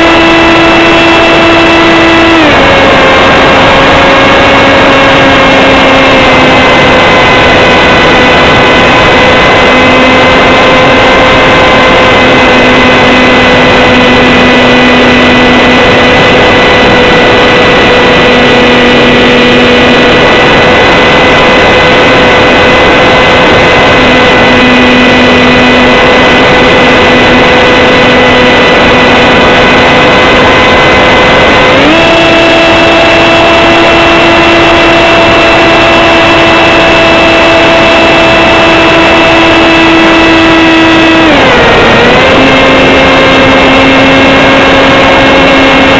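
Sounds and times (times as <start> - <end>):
electric motor and propeller whine: 0.0 - 45.9
wind rush: 0.0 - 45.9.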